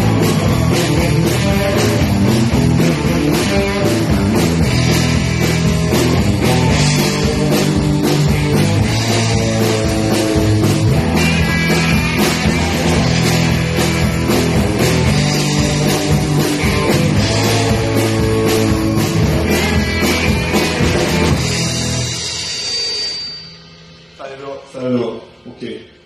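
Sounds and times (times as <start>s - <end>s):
blues-rock band playing: 0.0s - 24.2s
steady drumbeat: 0.0s - 25.6s.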